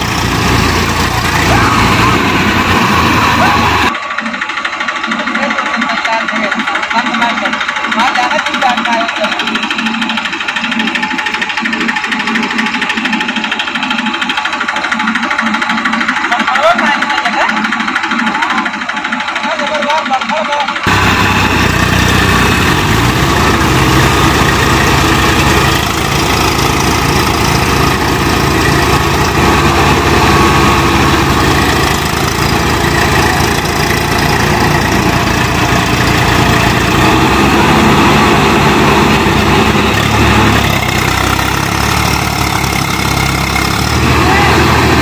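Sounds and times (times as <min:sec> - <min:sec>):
tractor diesel engines running: 0:00.0 - 0:45.0.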